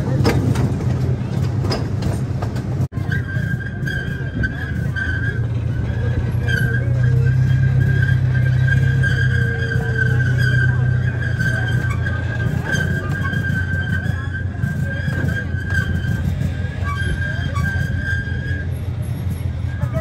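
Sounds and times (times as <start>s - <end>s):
train engine rumble: 0.0s - 20.0s.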